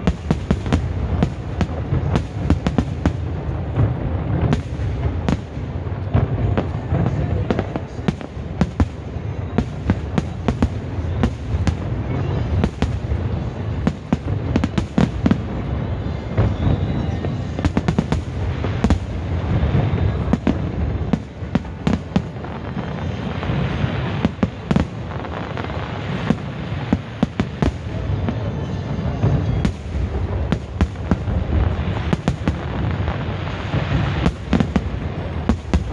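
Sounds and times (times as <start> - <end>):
fireworks hissing crackle: 0.0 - 35.9
fireworks sharp bangs: 0.0 - 35.9.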